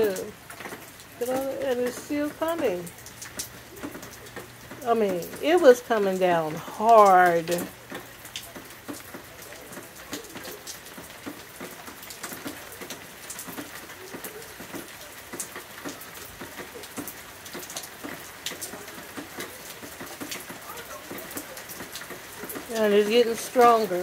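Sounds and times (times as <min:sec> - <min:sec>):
hail pellets ticking: 0:00.0 - 0:24.0
rain pattering on concrete: 0:00.0 - 0:24.0.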